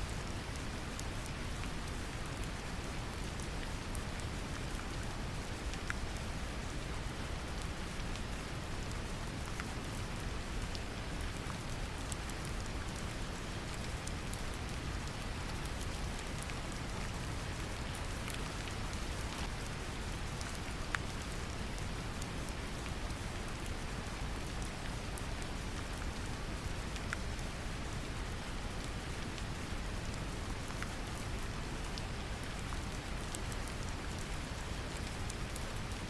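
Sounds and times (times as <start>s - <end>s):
rain: 0.0s - 36.0s.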